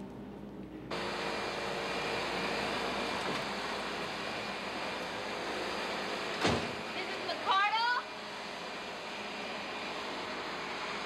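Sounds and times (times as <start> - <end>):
vacuum cleaner running: 0.9 - 11.0.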